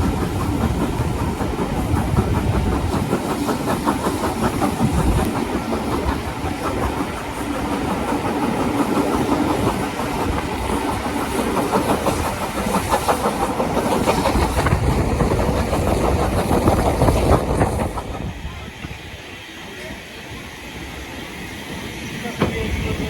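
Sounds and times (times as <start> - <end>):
train wheels clattering over rails: 0.0 - 23.0.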